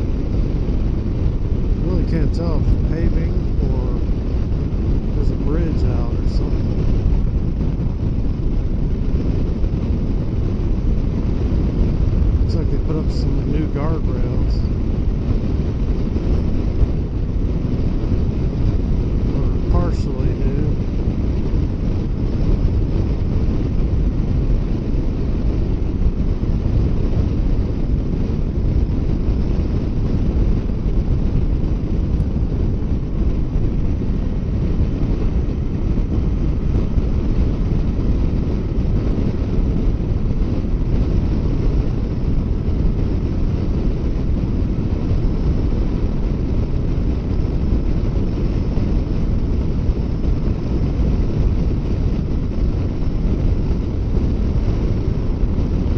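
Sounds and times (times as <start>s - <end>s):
low motorcycle and road rumble: 0.0s - 55.9s
wind buffeting microphone: 0.0s - 55.9s.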